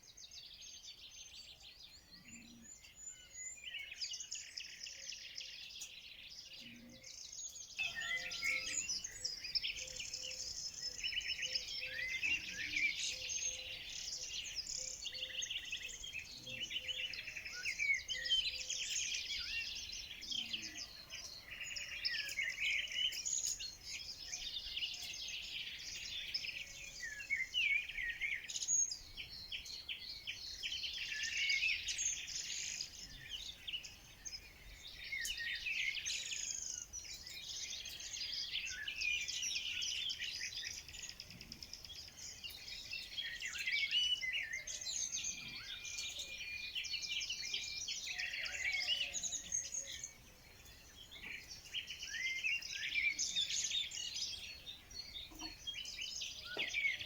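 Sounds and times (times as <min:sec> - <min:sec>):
birds singing chorus: 0:00.0 - 0:57.0.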